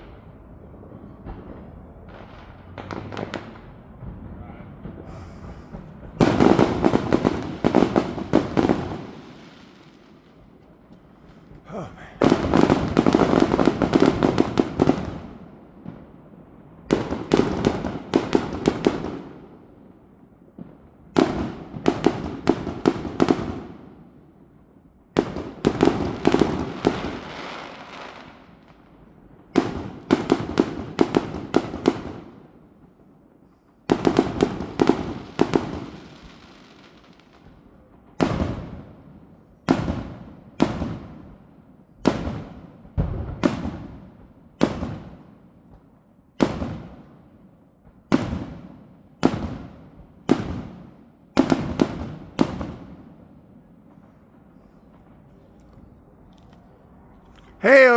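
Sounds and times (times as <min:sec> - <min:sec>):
fireworks crackling bangs: 0:00.0 - 0:19.8, 0:20.4 - 0:24.1, 0:25.1 - 0:57.9.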